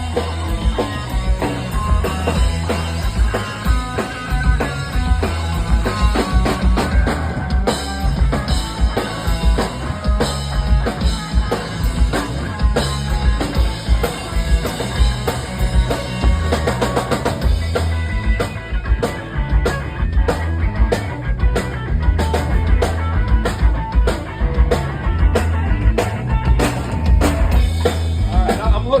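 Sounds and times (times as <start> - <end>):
bass guitar: 0.0 - 29.0
drum kit: 0.0 - 29.0
electric guitar lead: 0.0 - 29.0.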